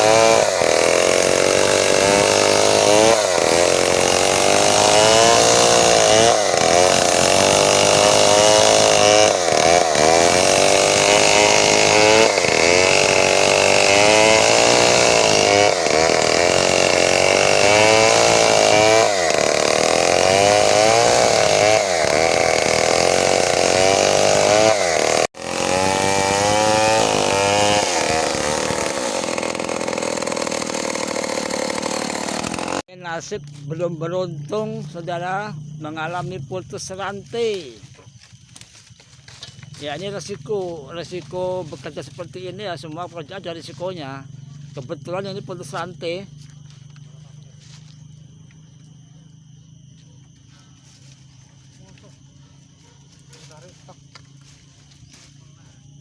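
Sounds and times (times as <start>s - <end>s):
chainsaw cutting wood: 0.0s - 36.3s, 36.9s - 56.0s.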